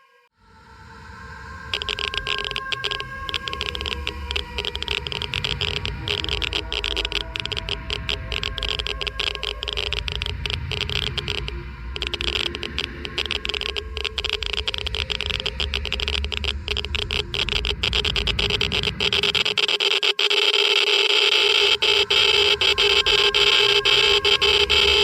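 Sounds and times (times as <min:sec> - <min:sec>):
faint electronic whine: 0:00.4 - 0:25.0
steady hiss: 0:01.3 - 0:25.0
geiger counter clicking: 0:01.7 - 0:25.0.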